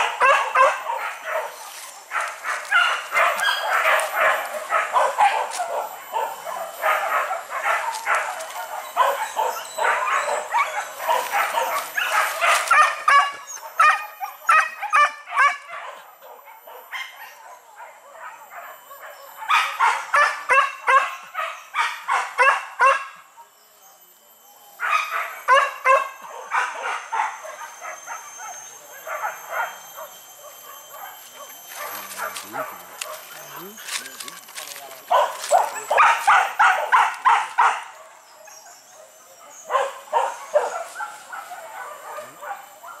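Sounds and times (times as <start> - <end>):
dogs barking and yelping: 0.0 - 43.0.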